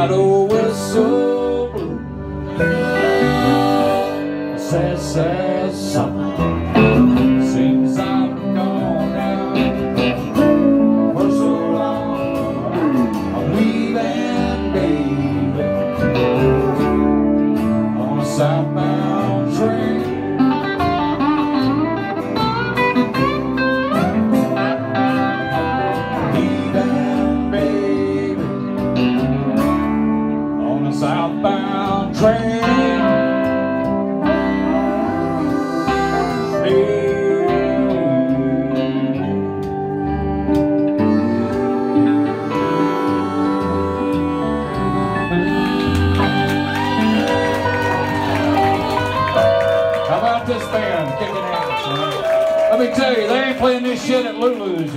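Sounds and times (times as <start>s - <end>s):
gliding electric guitar lines: 0.0s - 52.7s
live band playing blues rock: 0.0s - 54.9s.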